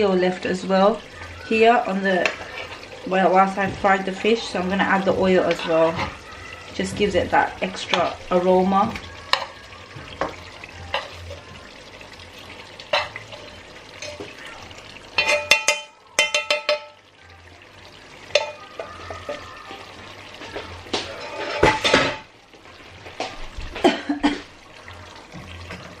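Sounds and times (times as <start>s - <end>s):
oil sizzling in a pan: 0.0s - 26.0s.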